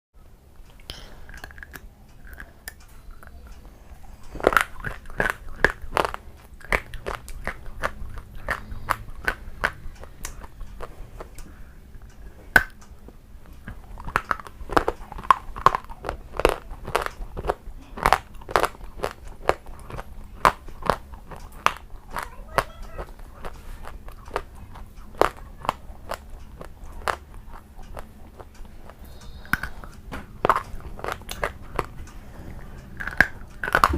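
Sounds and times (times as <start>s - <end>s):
crunchy chewing: 0.6s - 33.9s.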